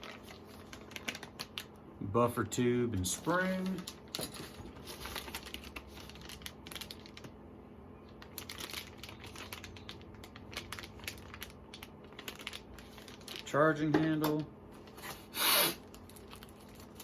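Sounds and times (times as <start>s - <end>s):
plastic wrapping crinkling: 0.0s - 1.8s, 3.0s - 7.4s, 8.1s - 13.8s, 14.8s - 17.0s.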